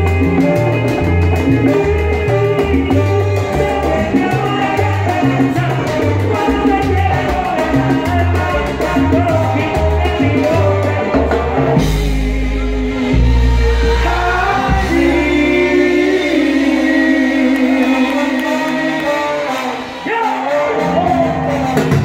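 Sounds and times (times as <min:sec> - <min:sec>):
man singing into microphone: 0:00.0 - 0:22.0
salsa band playing: 0:00.0 - 0:22.0.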